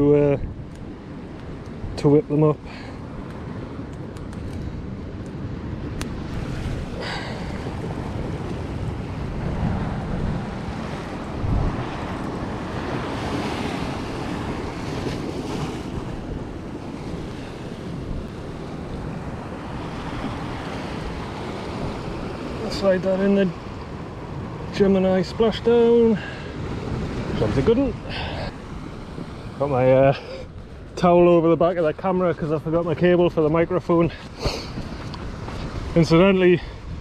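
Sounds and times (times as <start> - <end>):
surf on rocky shore: 0.0 - 37.0
wind rumbling on microphone: 0.0 - 37.0.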